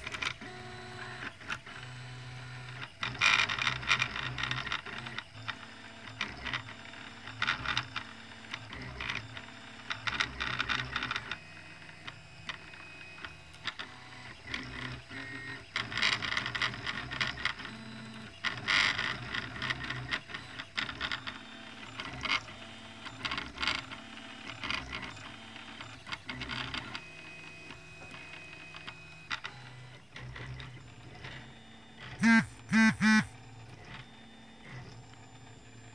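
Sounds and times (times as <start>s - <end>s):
stepper motors whining and buzzing: 0.0s - 35.9s.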